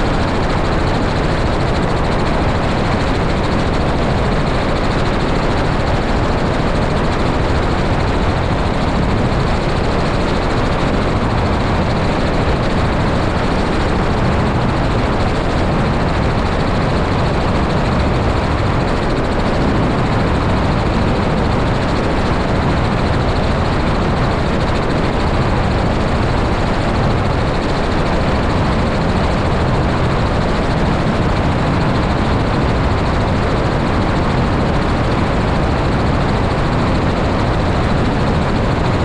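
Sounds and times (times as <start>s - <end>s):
helicopter engine and rotor roar: 0.0s - 39.0s.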